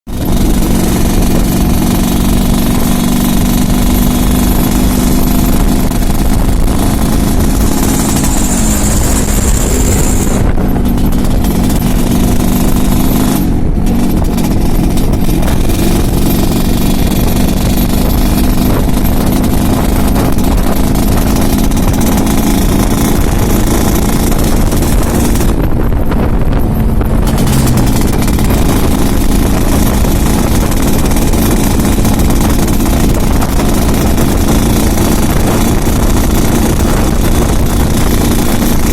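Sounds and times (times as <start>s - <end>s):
rough rattly motorcycle engine: 0.1s - 38.9s.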